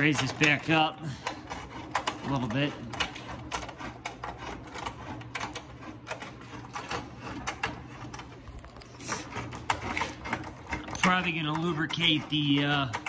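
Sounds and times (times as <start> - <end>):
table saw crank clicking and rattling: 0.0 - 13.0.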